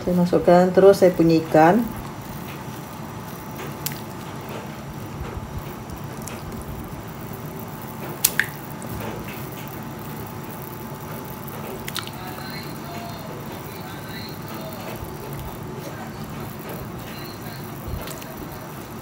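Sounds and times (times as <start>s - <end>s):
broth bubbling in a wok: 0.2s - 19.0s.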